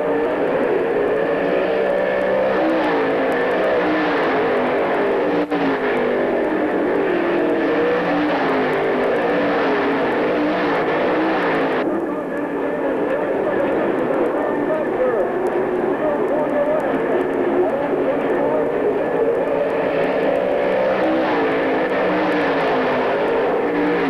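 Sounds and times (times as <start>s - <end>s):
race car engines: 0.0s - 24.0s.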